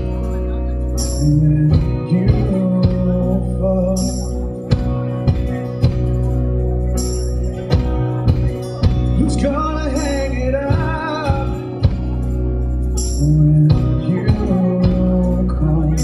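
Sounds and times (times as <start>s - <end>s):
man singing: 0.0s - 6.1s, 8.3s - 16.0s
second guitar: 0.0s - 16.0s
strummed acoustic guitar: 0.0s - 16.0s.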